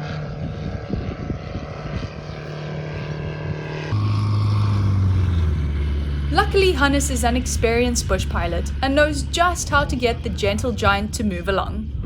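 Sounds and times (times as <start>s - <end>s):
propeller engine droning: 0.0s - 12.0s.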